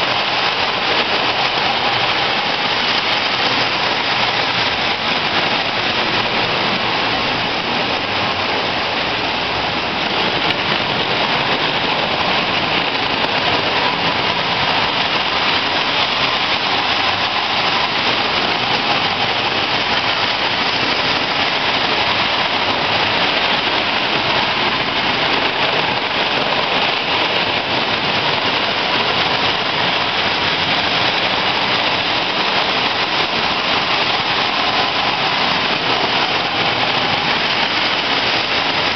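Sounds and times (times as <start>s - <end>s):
toy trains running on metal track: 0.0s - 38.9s.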